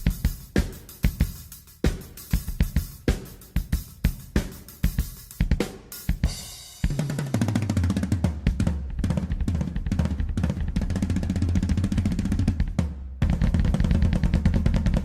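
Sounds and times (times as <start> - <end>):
snare and bass drum strikes: 0.0 - 15.0.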